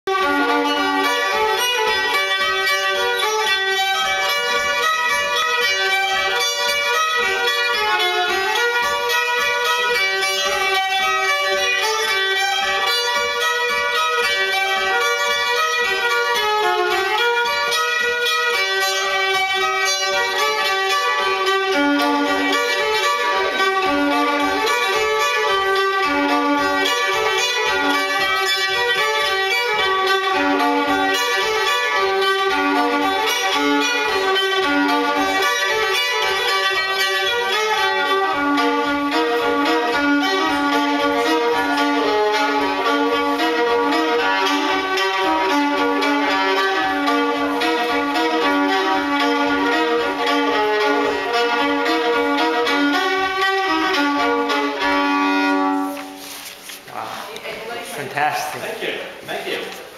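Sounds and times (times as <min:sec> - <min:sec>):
solo fiddle playing quick notes: 0:00.1 - 0:56.9.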